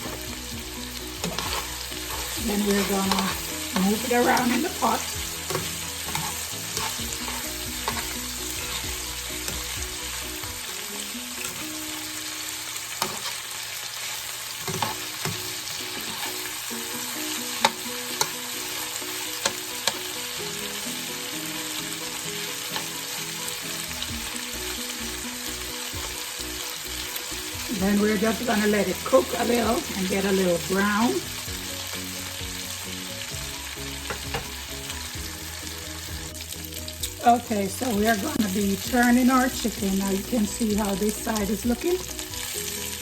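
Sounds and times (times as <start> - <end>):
chicken sizzling in hot oil: 0.0 - 43.0.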